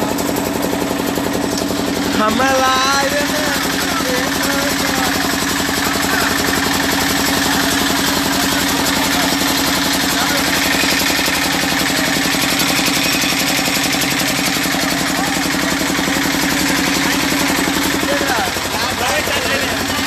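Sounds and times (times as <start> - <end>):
vehicle engine throbbing: 0.0 - 20.0.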